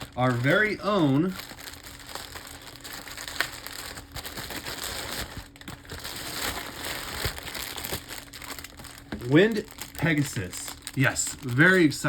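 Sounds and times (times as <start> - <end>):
toy packaging crinkling: 0.0 - 12.0.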